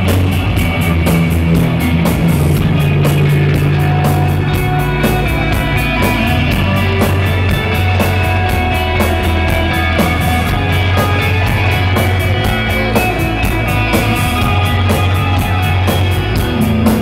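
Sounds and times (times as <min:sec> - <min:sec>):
bass guitar notes: 0:00.0 - 0:17.0
drums: 0:00.0 - 0:17.0
electric guitar: 0:00.0 - 0:17.0.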